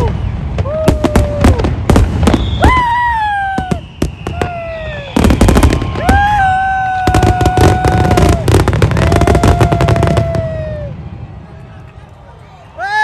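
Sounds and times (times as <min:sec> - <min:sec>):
fireworks crackling pops: 0:00.0 - 0:10.9
fireworks whistling: 0:00.0 - 0:12.0.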